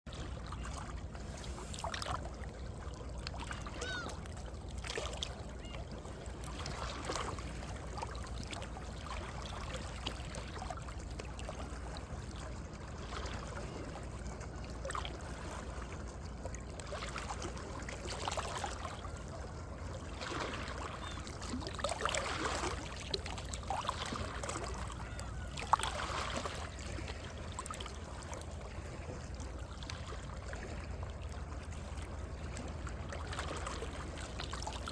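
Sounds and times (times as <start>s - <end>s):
waves lapping between rocks: 0.1s - 34.9s.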